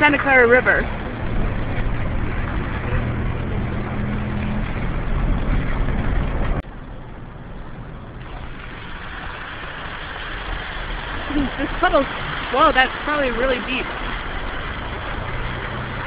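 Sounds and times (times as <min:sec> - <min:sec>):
car engine hum: 0:00.0 - 0:16.0
road noise rushing: 0:00.0 - 0:16.0.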